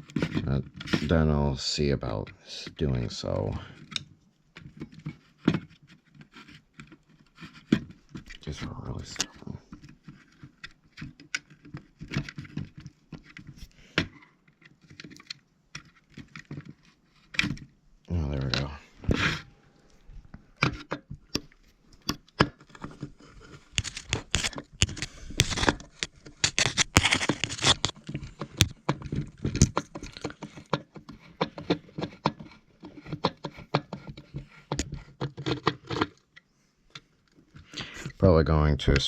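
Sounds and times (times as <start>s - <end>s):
plastic and metal parts handled: 0.0s - 1.2s, 2.2s - 39.0s.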